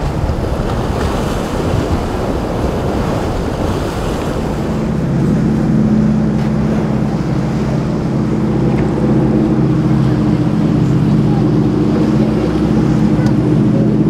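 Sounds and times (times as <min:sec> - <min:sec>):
motorboat engines running: 0:00.0 - 0:14.0
surf: 0:00.0 - 0:14.0
wind buffeting microphone: 0:00.0 - 0:14.0.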